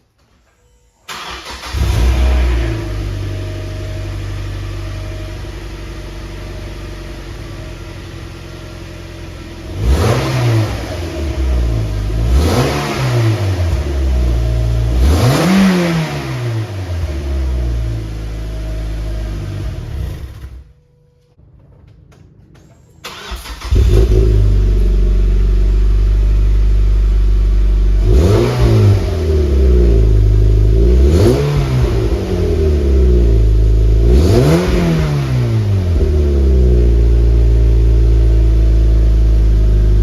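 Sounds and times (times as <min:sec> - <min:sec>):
car engine revving: 0:01.1 - 0:20.7, 0:23.0 - 0:40.0
car engine starting and idling: 0:01.1 - 0:20.9, 0:23.0 - 0:40.0.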